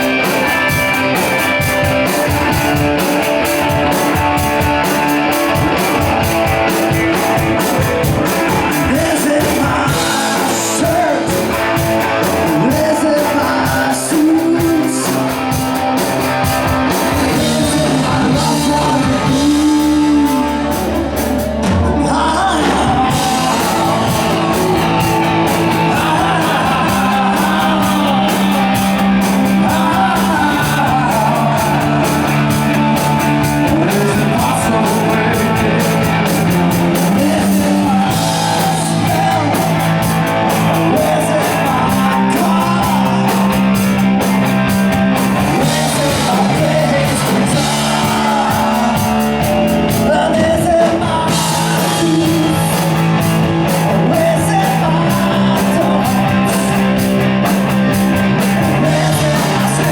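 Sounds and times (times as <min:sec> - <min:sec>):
person singing: 0:00.0 - 0:59.9
rock band playing live: 0:00.0 - 0:59.9.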